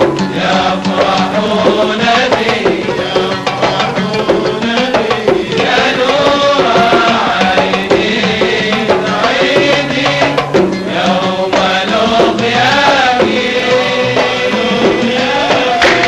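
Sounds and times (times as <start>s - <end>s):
hand drums beating: 0.0s - 16.0s
men singing: 0.0s - 16.0s
oud: 0.0s - 16.0s.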